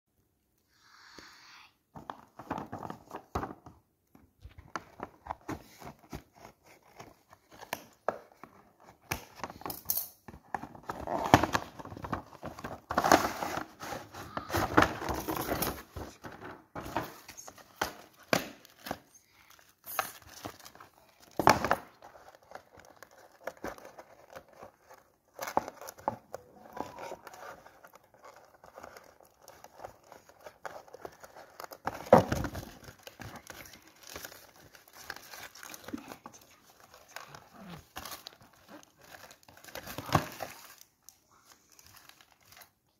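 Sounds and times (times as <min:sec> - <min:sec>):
cardboard and plastic packaging rustling: 0:01.9 - 0:42.9.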